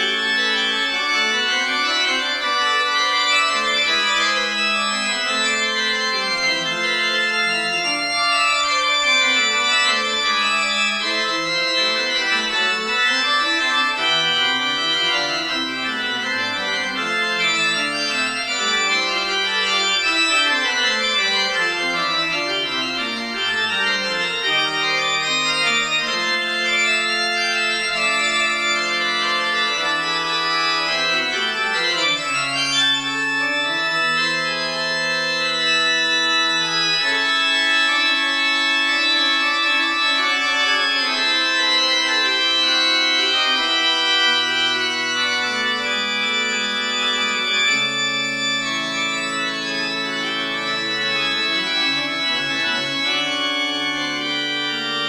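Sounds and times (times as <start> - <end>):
church organ playing: 0.0 - 55.0.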